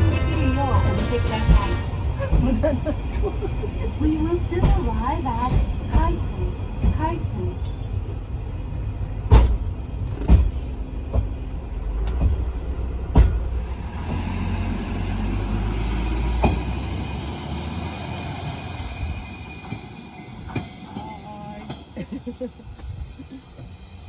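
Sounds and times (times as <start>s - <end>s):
train rumble on rails: 0.0s - 24.0s.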